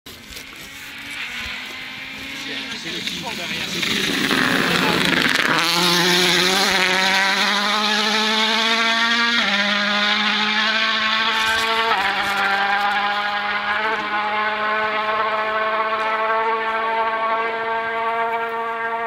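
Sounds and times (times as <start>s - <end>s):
gear upshifts: 0.1s - 18.9s
rally car engine accelerating: 0.1s - 19.0s.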